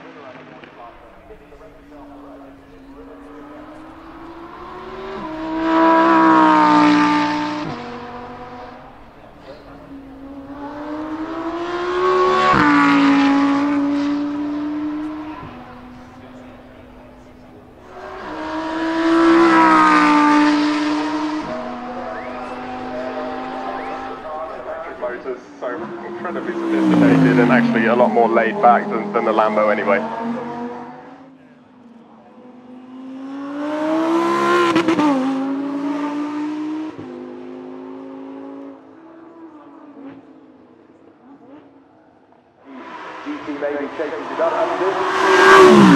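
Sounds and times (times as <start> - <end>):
sports car accelerating past: 0.2 - 45.9.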